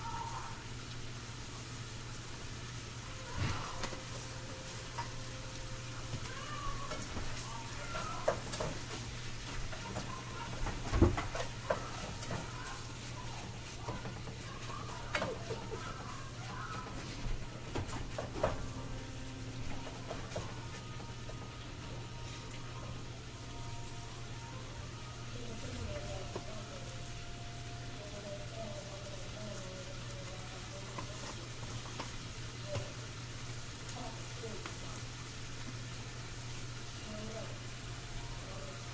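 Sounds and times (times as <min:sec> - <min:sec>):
meat sizzling in pan: 0:00.0 - 0:38.9.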